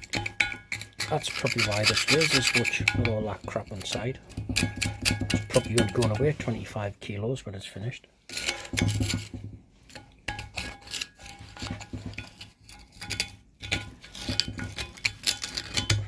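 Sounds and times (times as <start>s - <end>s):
metal tool scraping metal: 0.0s - 6.8s, 8.2s - 16.0s.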